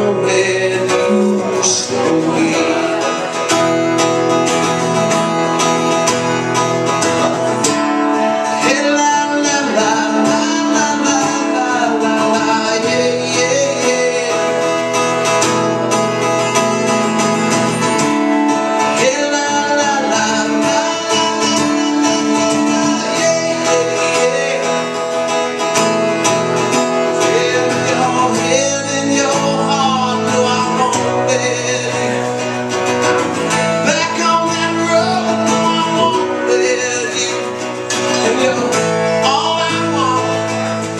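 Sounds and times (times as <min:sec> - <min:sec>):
man singing: 0:00.0 - 0:16.7, 0:17.3 - 0:40.9
acoustic guitar strumming: 0:00.0 - 0:40.9.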